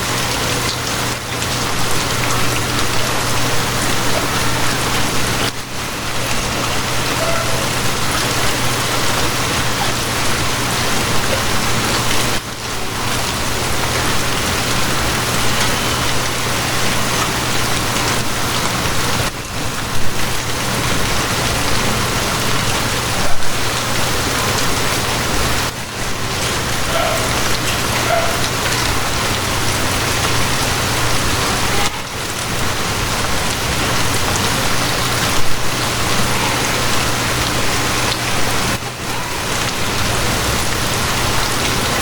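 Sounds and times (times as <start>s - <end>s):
heavy rain pattering: 0.0s - 42.0s.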